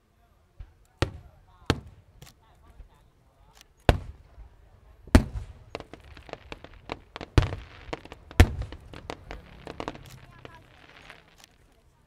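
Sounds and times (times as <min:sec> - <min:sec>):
fireworks bangs: 0:00.6 - 0:12.0
fireworks popping and crackling: 0:00.6 - 0:12.0.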